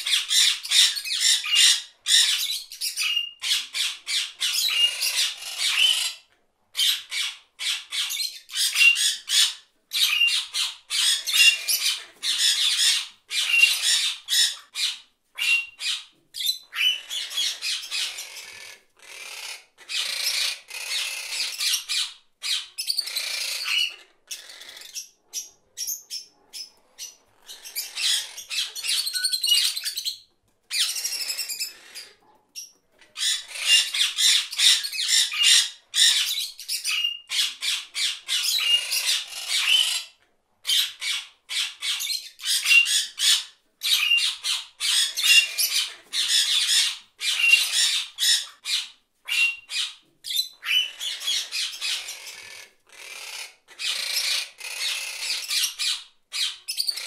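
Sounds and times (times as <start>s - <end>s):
parrot squawking: 0.0s - 6.2s, 6.8s - 32.2s, 33.1s - 57.0s.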